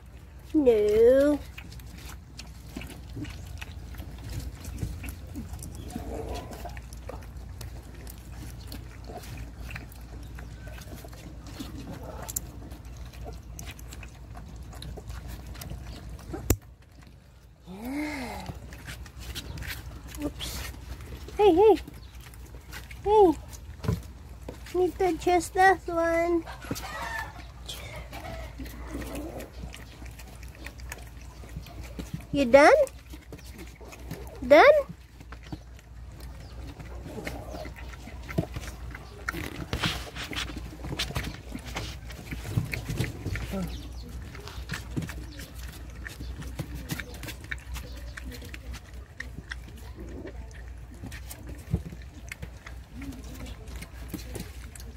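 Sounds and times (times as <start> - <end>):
puppies lapping and chewing: 0.0 - 54.9.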